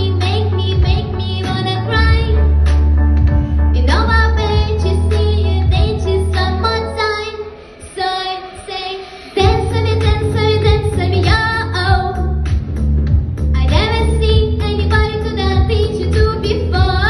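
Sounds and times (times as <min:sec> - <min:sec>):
girl singing into microphone: 0:00.0 - 0:02.6, 0:03.8 - 0:12.5, 0:13.6 - 0:17.0
pop backing track: 0:00.0 - 0:17.0.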